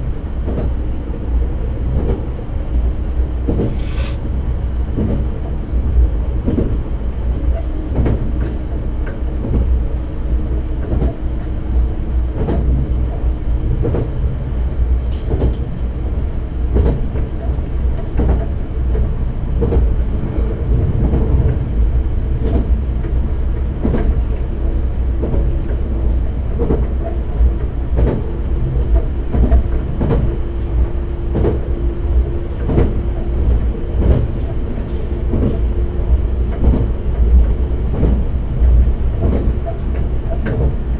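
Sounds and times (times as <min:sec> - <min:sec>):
railcar rumble of wheels and engine: 0:00.0 - 0:40.9.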